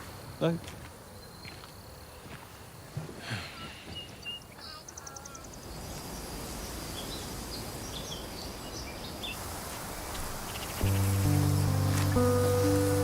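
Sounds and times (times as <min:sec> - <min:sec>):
outdoor noise: 0:00.0 - 0:13.0.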